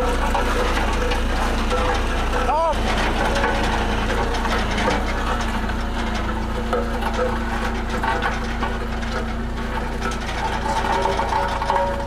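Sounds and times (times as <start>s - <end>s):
road roller diesel engine: 0.0s - 12.0s.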